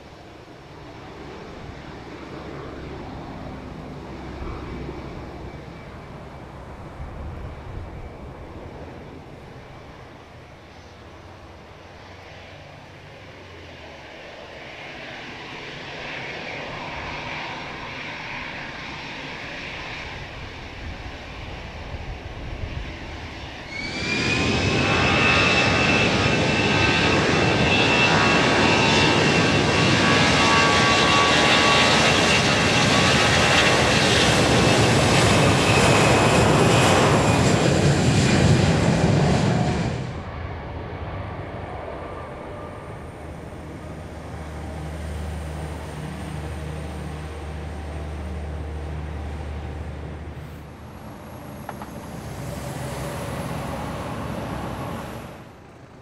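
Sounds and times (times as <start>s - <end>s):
high turbine whine: 0.0s - 56.0s
jet engine noise: 0.0s - 56.0s.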